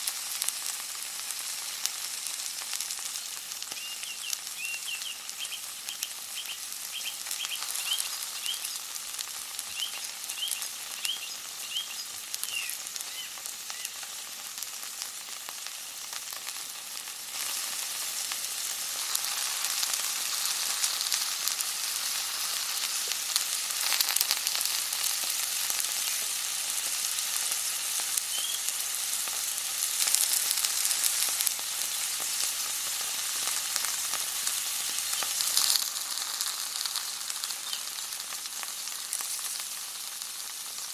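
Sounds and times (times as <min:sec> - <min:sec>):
food sizzling and crackling in oil: 0:00.0 - 0:40.9.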